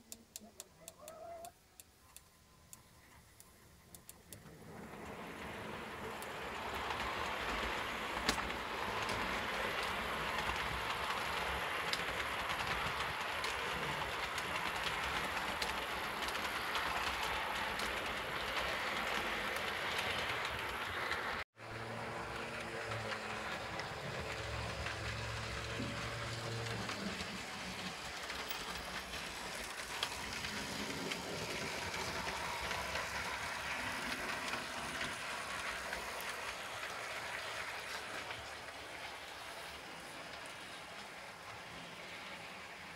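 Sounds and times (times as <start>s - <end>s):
model train wheels rattling: 2.1s - 42.9s.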